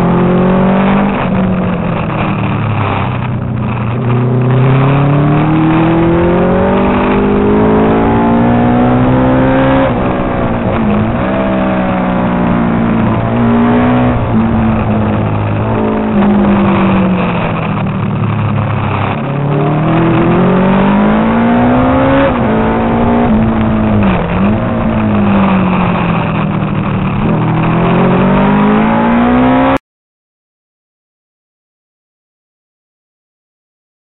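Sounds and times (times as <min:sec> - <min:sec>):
racing motorcycle engine: 0:00.0 - 0:29.8.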